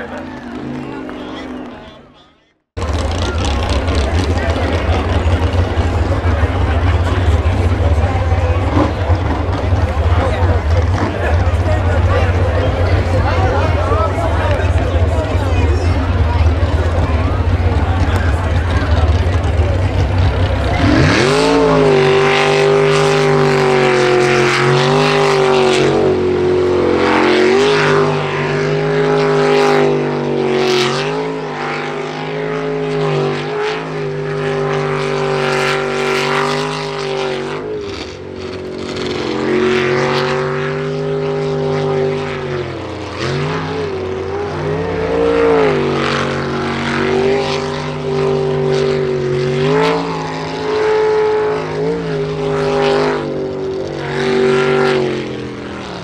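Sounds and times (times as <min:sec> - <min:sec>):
boat engine running hard: 0:00.0 - 0:56.0.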